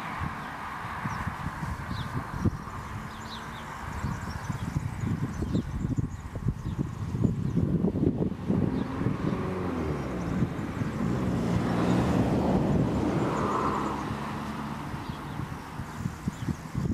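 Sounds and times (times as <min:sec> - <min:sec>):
engine passing by: 0:00.0 - 0:16.9.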